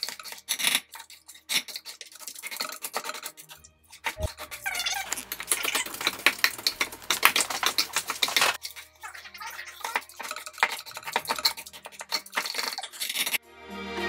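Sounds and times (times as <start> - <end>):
metal masher clinking in steel bowl: 0.0 - 9.0, 9.6 - 13.4
squishing of mashed mix: 0.0 - 13.4.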